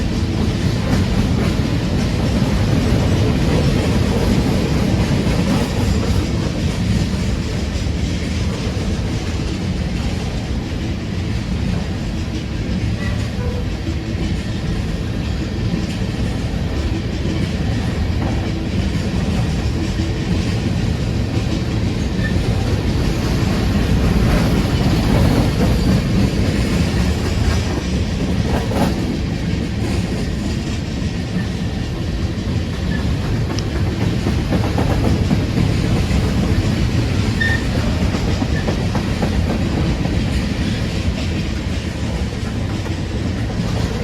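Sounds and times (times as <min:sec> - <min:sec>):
freight train wheels rumbling: 0:00.0 - 0:44.0.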